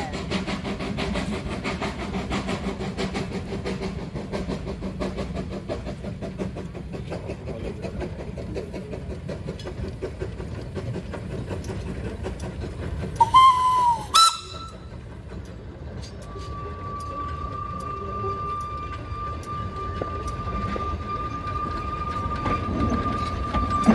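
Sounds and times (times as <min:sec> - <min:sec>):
steam locomotive chuffing: 0:00.0 - 0:23.9.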